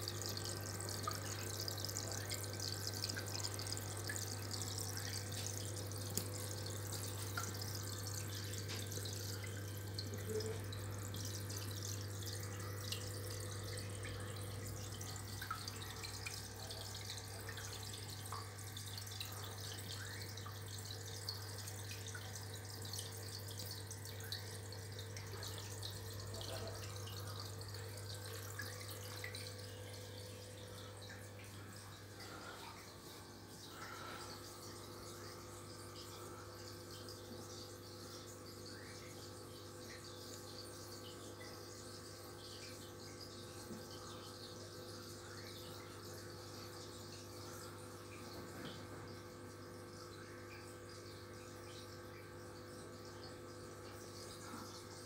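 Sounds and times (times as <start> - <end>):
filter low hum: 0.0 - 55.0
water drips: 0.0 - 55.0
water trickling and splashing: 0.0 - 55.0.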